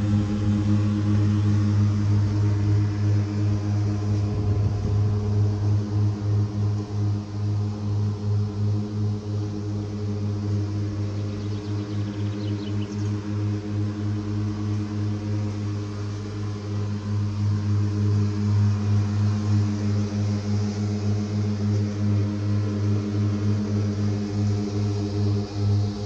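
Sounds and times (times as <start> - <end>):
ride-on mower humming: 0.0 - 26.0.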